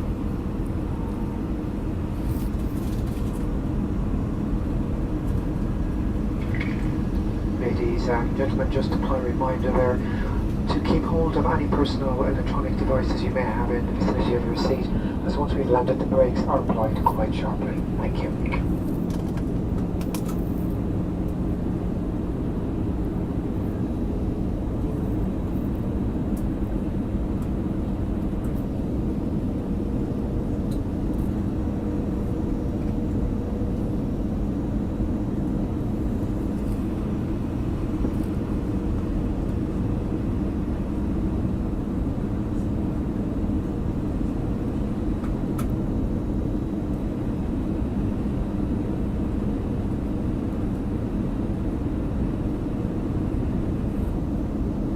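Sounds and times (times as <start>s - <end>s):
jet engine drone in cabin: 0.0s - 54.9s
low steady hums: 0.0s - 54.9s.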